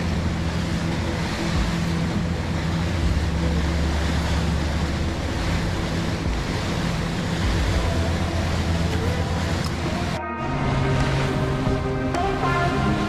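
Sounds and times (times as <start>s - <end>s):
outboard engines humming: 0.0s - 13.0s
wind and water rushing: 0.0s - 13.0s.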